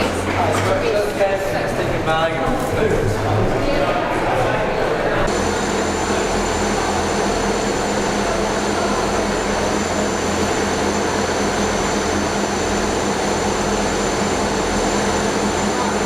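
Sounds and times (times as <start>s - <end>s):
diesel train running: 0.0s - 16.0s.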